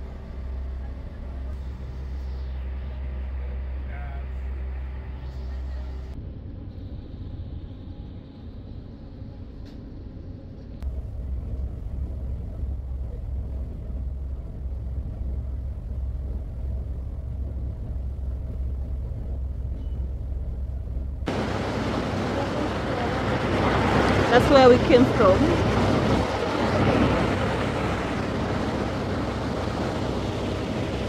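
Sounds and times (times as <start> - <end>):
ferry engine rumbling: 0.0 - 31.0.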